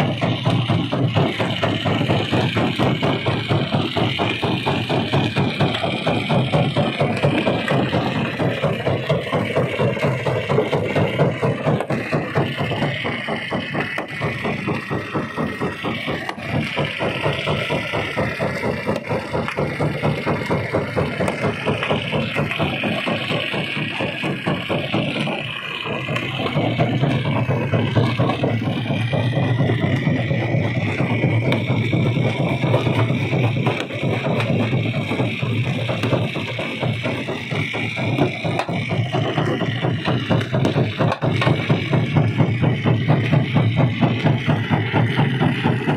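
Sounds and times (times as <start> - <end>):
heavy machinery drone: 0.0 - 45.9
rock crusher knocking: 0.0 - 45.9.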